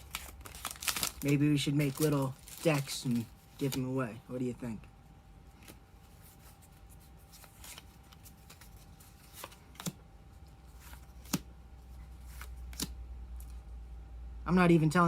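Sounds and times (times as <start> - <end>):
trading cards rustling: 0.0 - 4.5, 5.5 - 13.6.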